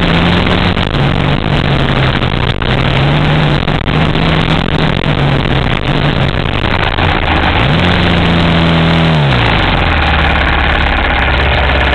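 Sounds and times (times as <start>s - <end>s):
dirt bike engine revving: 0.0s - 11.9s
loud rushing noise: 0.0s - 11.9s.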